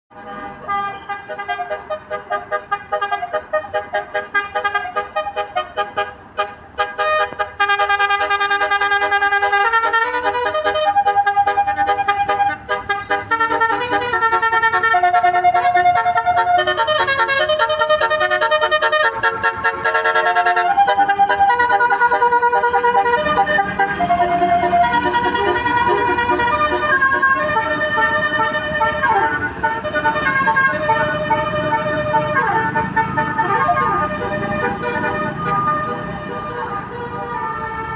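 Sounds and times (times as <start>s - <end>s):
melodic horn playing tune: 0.2s - 37.9s.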